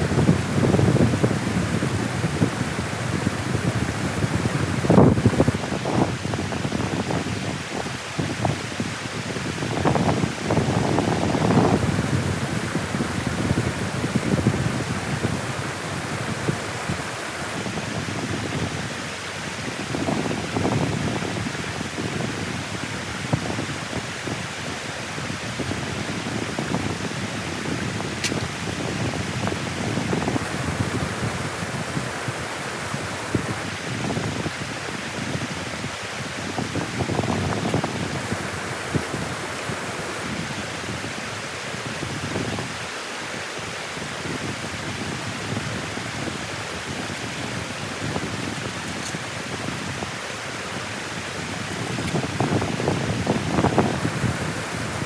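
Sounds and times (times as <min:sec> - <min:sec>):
water rushing through dam: 0:00.0 - 0:55.0
wind buffeting microphone: 0:00.0 - 0:55.0.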